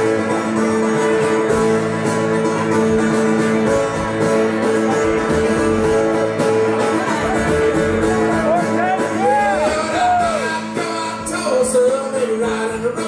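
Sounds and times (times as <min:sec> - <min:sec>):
live band music: 0:00.0 - 0:13.0
strummed acoustic guitar: 0:00.0 - 0:13.0.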